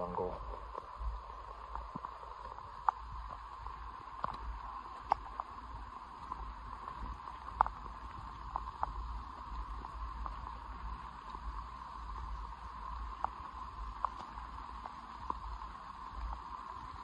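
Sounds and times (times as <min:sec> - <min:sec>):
light rain hiss: 0:00.0 - 0:17.0.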